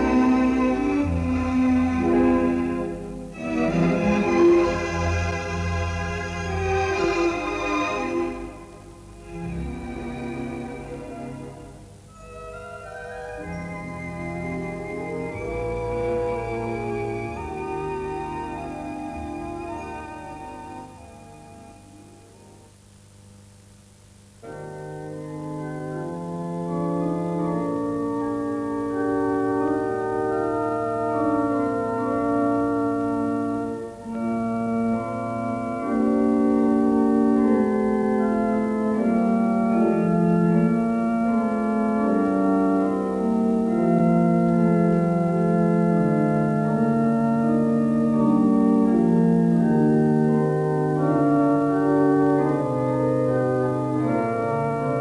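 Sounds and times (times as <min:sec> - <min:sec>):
pipe organ playing chords: 0:00.0 - 0:22.8, 0:24.3 - 0:55.0.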